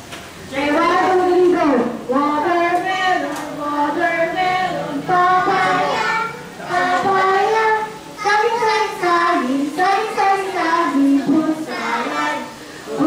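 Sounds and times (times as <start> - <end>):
young children singing: 0.6 - 13.0.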